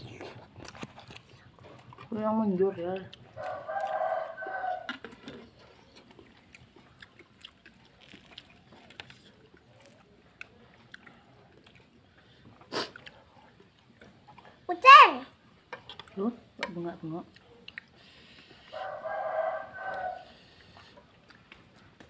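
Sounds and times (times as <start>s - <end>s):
soft chewing: 0.0s - 14.7s, 15.3s - 22.0s.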